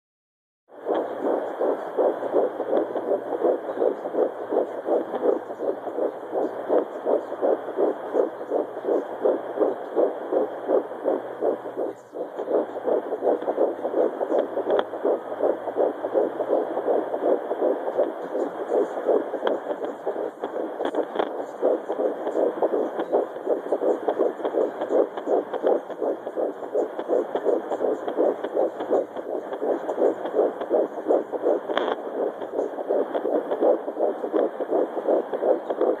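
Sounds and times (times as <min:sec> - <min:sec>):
fetal heartbeat whooshing pulse: 0:00.7 - 0:36.0.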